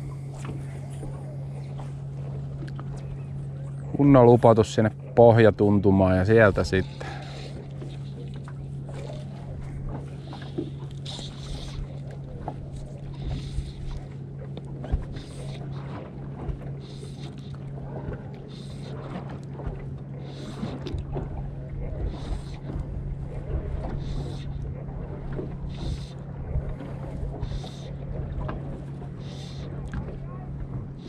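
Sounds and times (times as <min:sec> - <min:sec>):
waves lapping against boat hull: 0:00.0 - 0:31.0.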